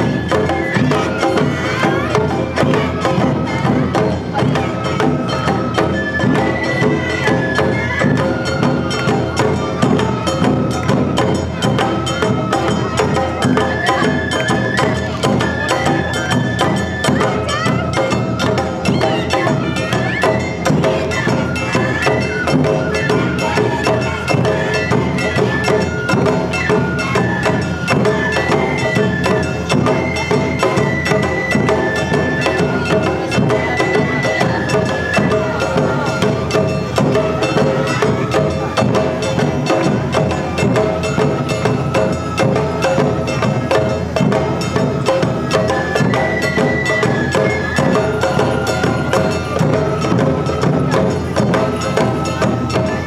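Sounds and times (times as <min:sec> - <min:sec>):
bamboo flute high notes: 0:00.0 - 0:53.0
taiko drums beating: 0:00.0 - 0:53.0.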